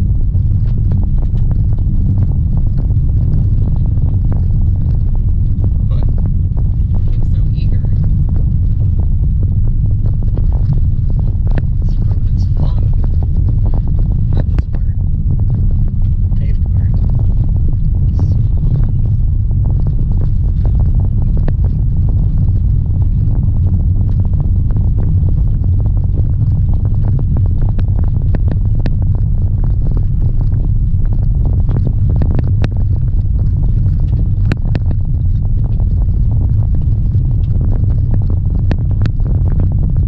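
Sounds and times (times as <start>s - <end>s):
tyres rumbling on gravel: 0.0s - 40.0s.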